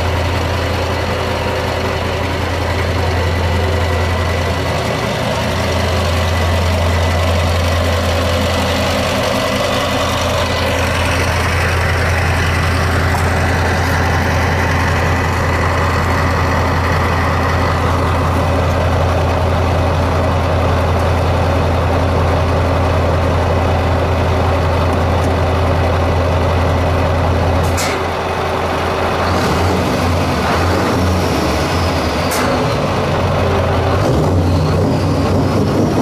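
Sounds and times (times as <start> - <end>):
diesel truck engine running: 0.0 - 36.0.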